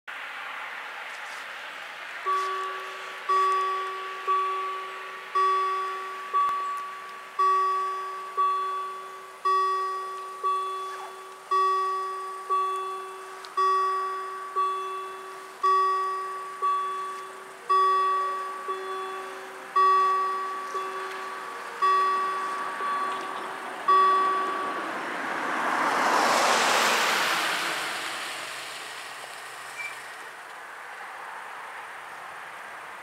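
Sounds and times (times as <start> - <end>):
level crossing warning bell: 2.2 - 30.4.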